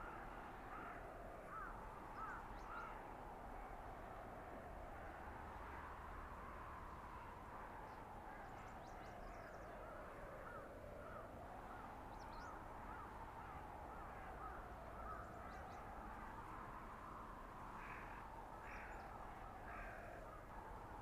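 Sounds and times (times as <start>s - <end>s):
howling blizzard wind: 0.0s - 21.0s.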